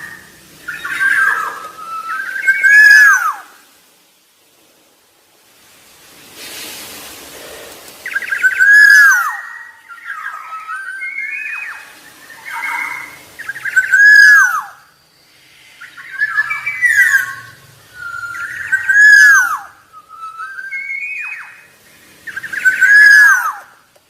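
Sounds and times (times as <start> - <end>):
bird singing fluting whistles: 0.0 - 3.6, 8.0 - 23.8.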